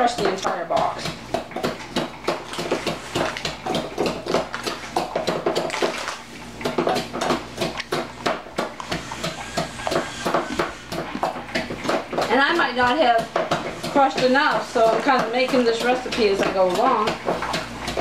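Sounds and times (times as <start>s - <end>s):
meat tenderizer crushing cookies: 0.0s - 18.0s.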